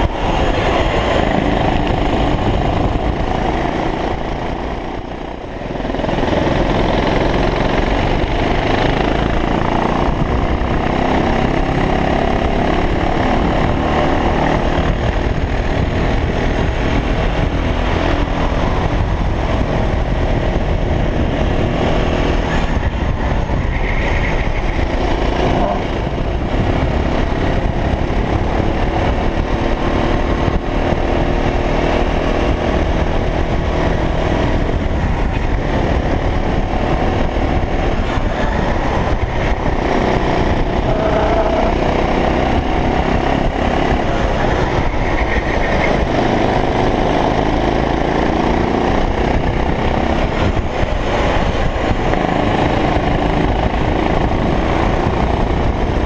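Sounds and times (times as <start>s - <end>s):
go-kart engine racing: 0.0s - 56.0s
wind buffeting microphone: 0.0s - 56.0s.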